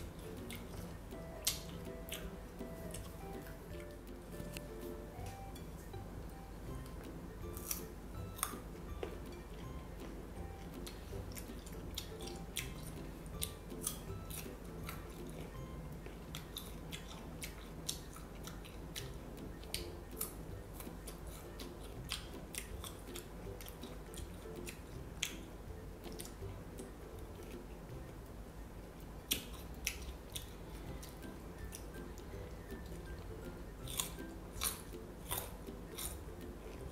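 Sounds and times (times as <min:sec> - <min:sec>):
faint background music: 0:00.0 - 0:36.9
person chewing fruit: 0:00.0 - 0:36.9.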